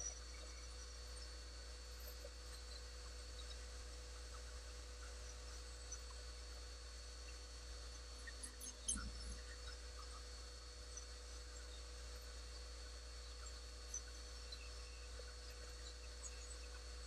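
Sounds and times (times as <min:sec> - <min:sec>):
faint workshop hum: 0:00.0 - 0:17.0.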